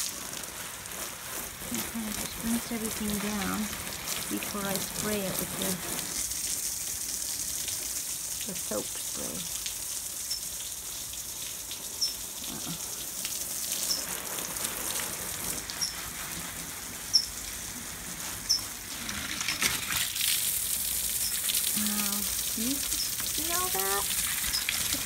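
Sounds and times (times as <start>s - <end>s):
garden hose spraying water: 0.0s - 25.0s.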